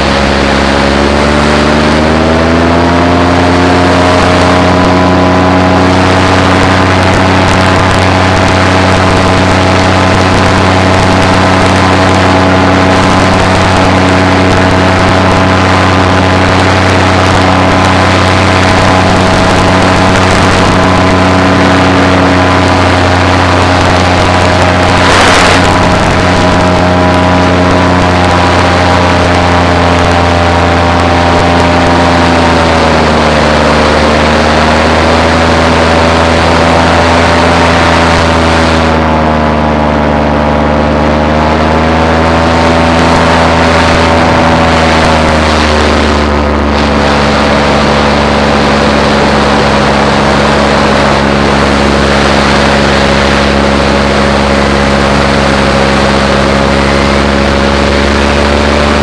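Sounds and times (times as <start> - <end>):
paramotor engine running: 0.0 - 59.0
rush of noise: 0.0 - 59.0.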